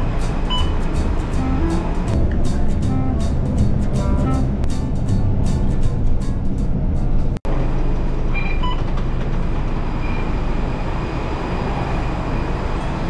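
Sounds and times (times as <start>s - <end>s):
vehicle running rumble: 0.0s - 13.0s.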